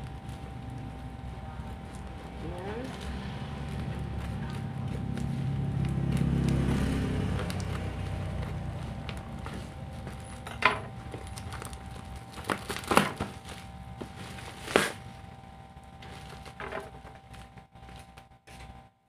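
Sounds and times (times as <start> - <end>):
bubble wrap crackles: 0.0 - 18.4
bubble wrap crinkling: 0.0 - 18.4.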